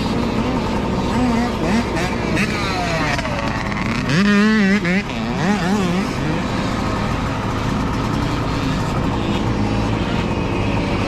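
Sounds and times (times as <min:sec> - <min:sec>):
dirt bike engines racing: 0:00.0 - 0:11.0.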